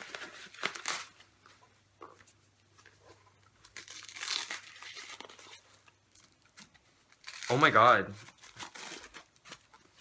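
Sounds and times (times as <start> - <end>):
plastic wrapping crinkling: 0.0 - 1.6, 2.2 - 10.0.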